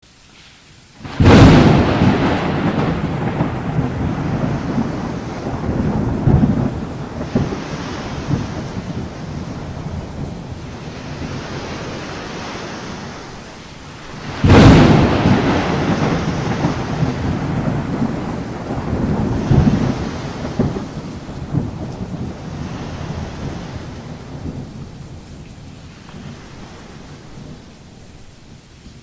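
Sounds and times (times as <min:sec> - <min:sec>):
steady rain: 0:00.0 - 0:29.0
sharp thunderclap: 0:01.0 - 0:13.4, 0:14.0 - 0:27.8
rolling thunder rumble: 0:01.0 - 0:29.0.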